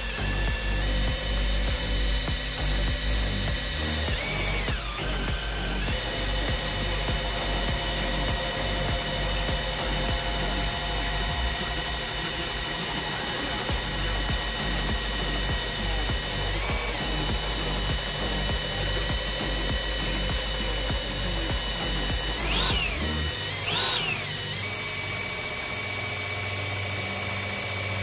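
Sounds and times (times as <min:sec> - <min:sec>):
electric drill spinning: 0:00.0 - 0:28.0.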